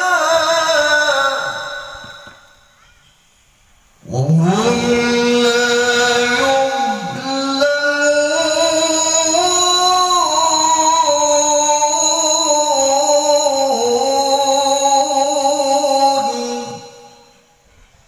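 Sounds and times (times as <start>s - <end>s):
man reciting melodically into microphone: 0.0s - 2.6s, 4.0s - 17.6s.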